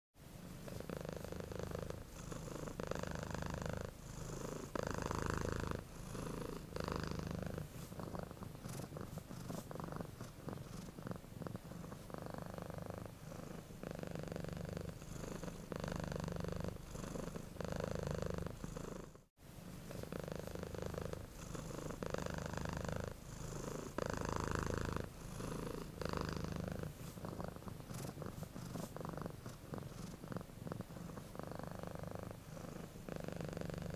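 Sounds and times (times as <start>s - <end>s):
cat purring: 0.3s - 33.9s.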